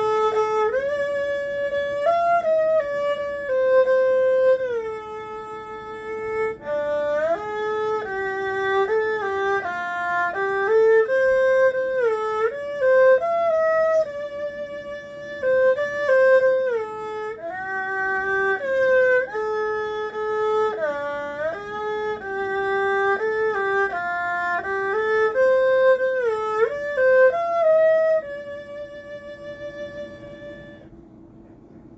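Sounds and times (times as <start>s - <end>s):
erhu playing slow melody: 0.0s - 31.7s.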